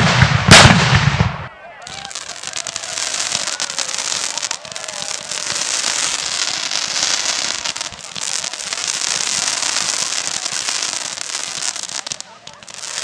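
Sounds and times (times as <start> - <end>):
firework fountains hissing: 1.8 - 13.0
rapid crackling pops: 1.8 - 13.0.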